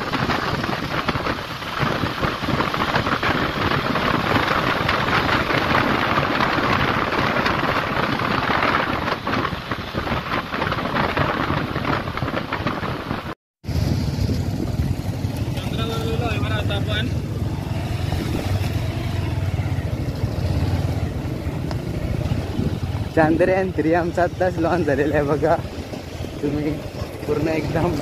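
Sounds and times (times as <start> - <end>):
wind on microphone: 0.0 - 15.5, 17.2 - 28.0
rain beating on microphone: 0.0 - 28.0.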